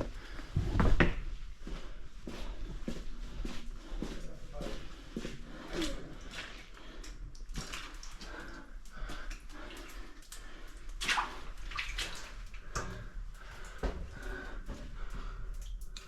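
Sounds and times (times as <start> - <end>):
footsteps wading through water and mud: 2.4 - 16.0.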